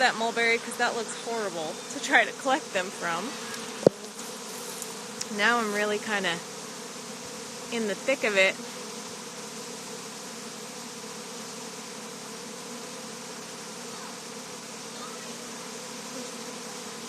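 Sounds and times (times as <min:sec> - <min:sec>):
bee swarm buzzing: 0:00.0 - 0:17.0.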